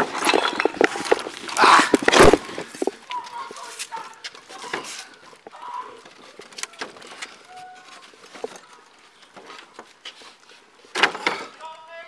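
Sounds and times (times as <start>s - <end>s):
gear scraping against wooden fence: 0.0s - 11.7s.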